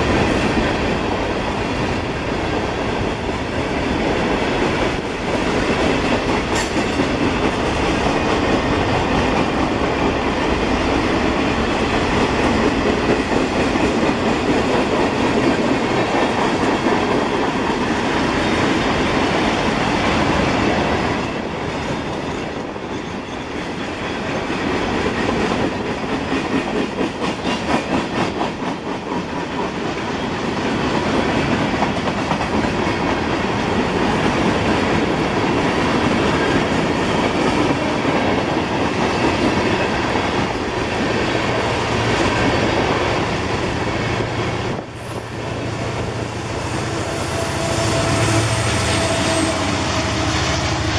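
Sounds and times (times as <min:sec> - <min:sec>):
clickety-clack of wheels on rail joints: 0:00.0 - 0:50.9
train wheels rumbling on rails: 0:00.0 - 0:50.9.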